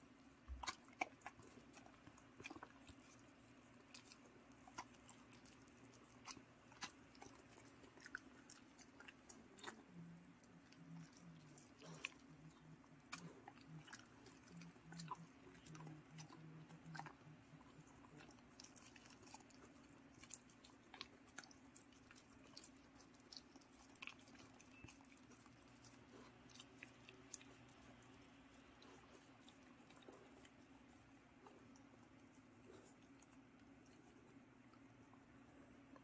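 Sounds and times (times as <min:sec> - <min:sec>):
dog chewing wetly: 0:00.0 - 0:36.0.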